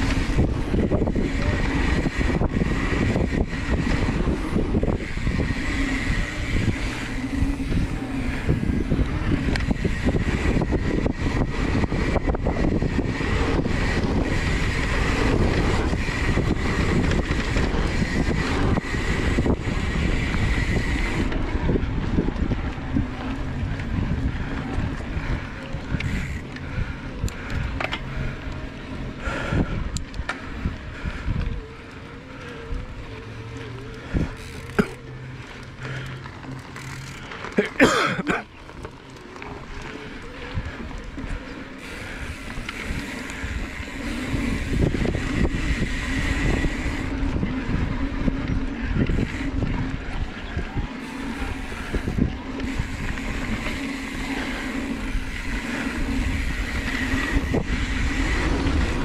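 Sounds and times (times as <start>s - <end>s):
bike rattling and knocking: 0.0s - 59.0s
thin steady whine: 0.0s - 59.0s
wind rushing over microphone: 0.0s - 59.0s.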